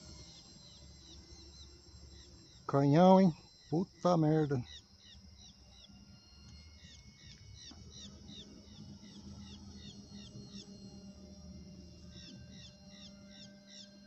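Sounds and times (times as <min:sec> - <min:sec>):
faint low drone: 0:00.0 - 0:14.0.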